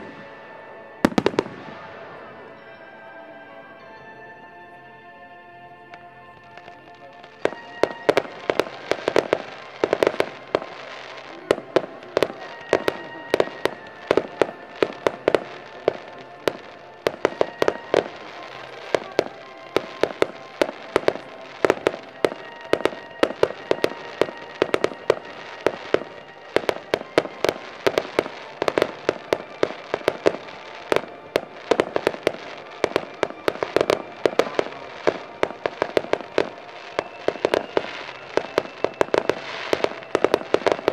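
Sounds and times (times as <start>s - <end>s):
fireworks bangs and cracks: 0.0s - 2.6s, 6.5s - 40.9s
music playing: 0.0s - 40.9s.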